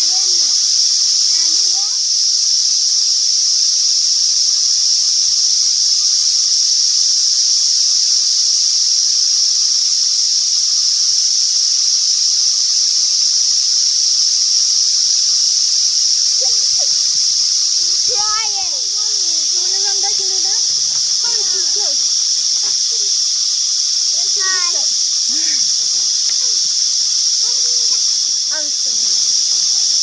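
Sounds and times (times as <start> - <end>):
cicadas chorus: 0.0 - 30.0.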